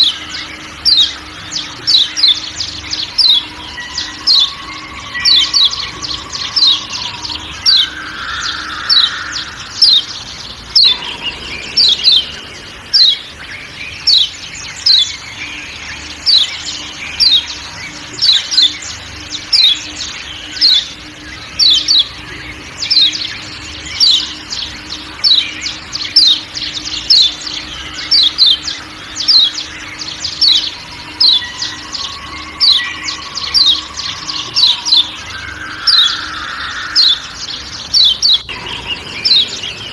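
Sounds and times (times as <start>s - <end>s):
bird sharp chirping calls: 0.0s - 39.9s
forest ambience: 0.0s - 39.9s.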